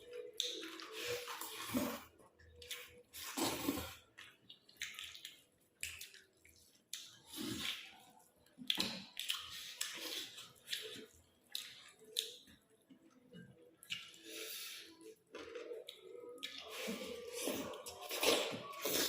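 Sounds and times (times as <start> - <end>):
wet chewing sounds: 0.0 - 19.0.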